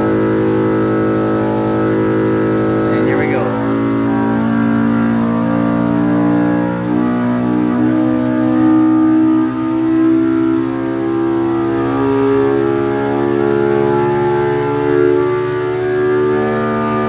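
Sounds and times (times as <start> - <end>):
engine revving under load: 0.0 - 17.0.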